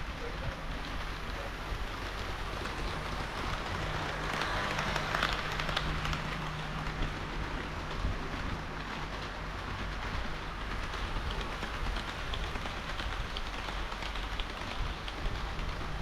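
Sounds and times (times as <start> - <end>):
model train wheels rattling: 0.0 - 16.0.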